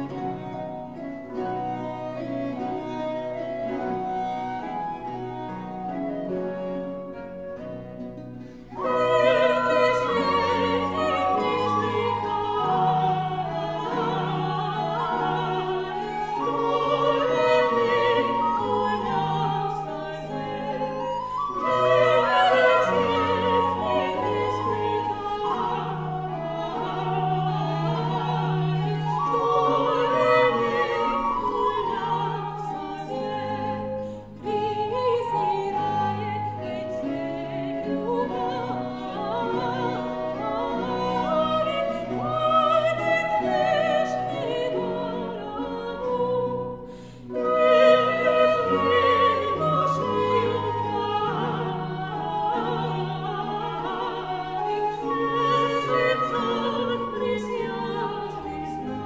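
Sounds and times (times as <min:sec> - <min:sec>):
orchestral accompaniment: 0:00.0 - 0:59.0
operatic singing with vibrato: 0:08.4 - 0:59.0.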